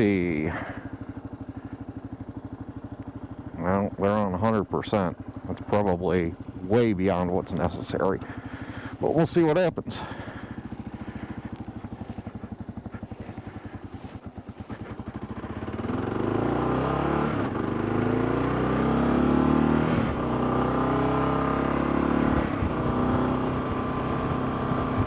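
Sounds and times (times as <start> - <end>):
motorcycle accelerating through gears: 0.0 - 4.0, 4.6 - 9.1, 9.9 - 25.0
motorcycle engine idling: 0.0 - 25.0.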